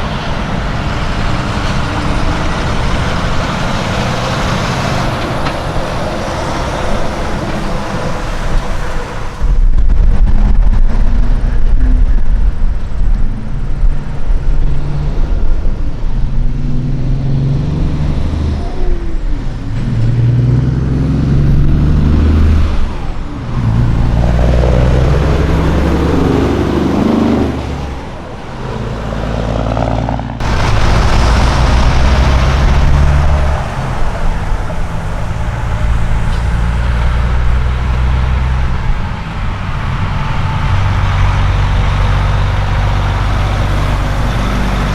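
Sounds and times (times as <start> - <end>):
truck diesel engines: 0.0 - 44.9.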